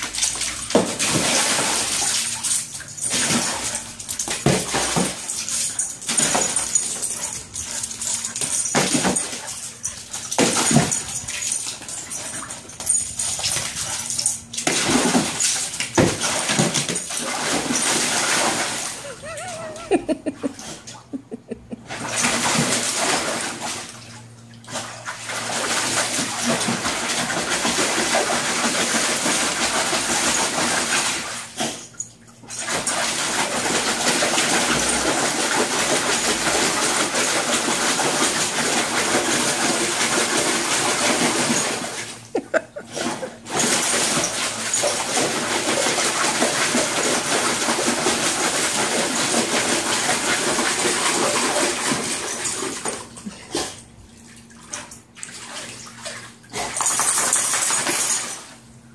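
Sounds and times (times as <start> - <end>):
dog splashing in water: 0.0 - 20.4, 21.9 - 31.8, 32.5 - 58.5.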